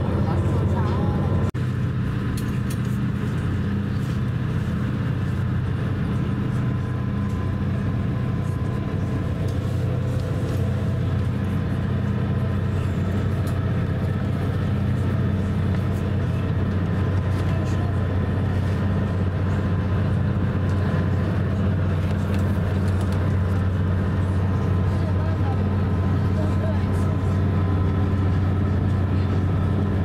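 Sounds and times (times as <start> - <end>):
ferry engines droning: 0.0 - 30.0.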